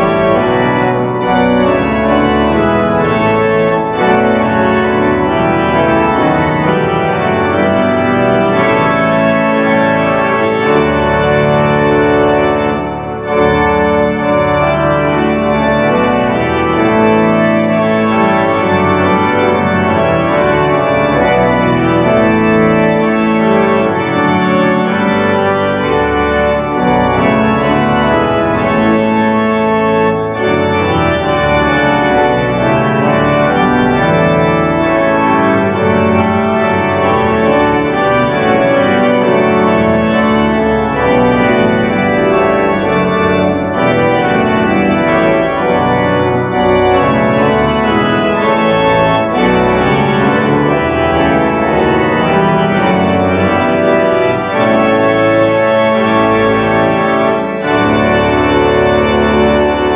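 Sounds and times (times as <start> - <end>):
church organ playing a hymn: 0.0 - 59.9.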